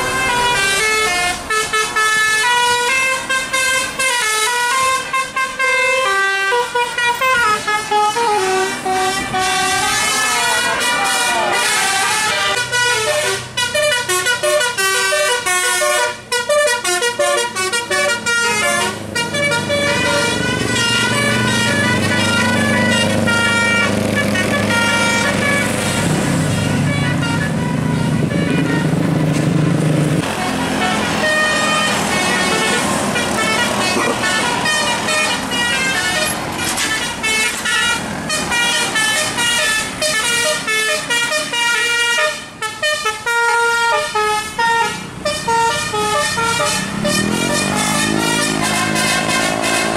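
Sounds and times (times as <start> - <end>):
bus engine running: 0.0 - 49.9
bus melody horns tooting: 0.0 - 49.9.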